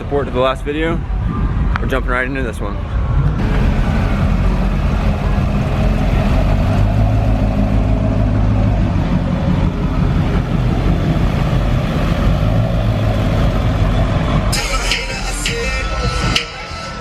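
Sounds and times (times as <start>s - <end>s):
truck engine running: 3.3s - 17.0s.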